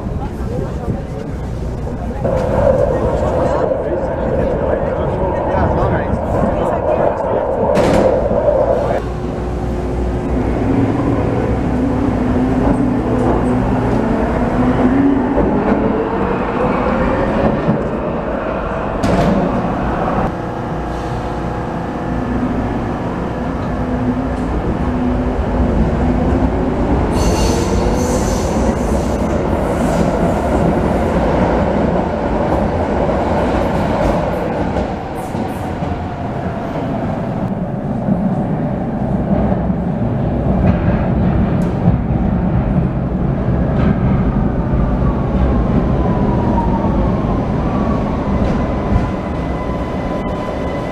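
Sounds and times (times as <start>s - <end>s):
wheels rumbling on rail: 0.0s - 50.9s.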